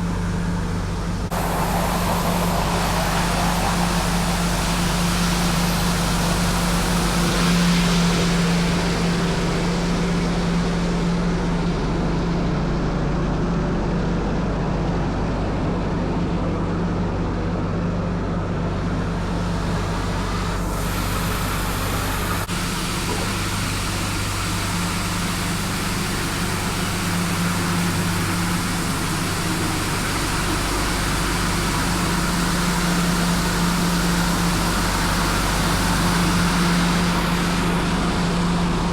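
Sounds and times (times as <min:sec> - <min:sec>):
sweeper hiss: 0:00.0 - 0:12.0, 0:18.7 - 0:38.9
street sweeper engine and blower hum: 0:00.0 - 0:38.9.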